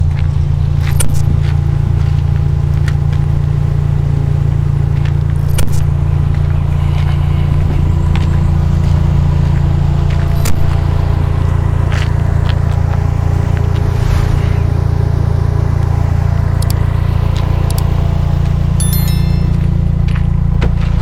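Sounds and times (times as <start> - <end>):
car engine running steadily: 0.0 - 21.0.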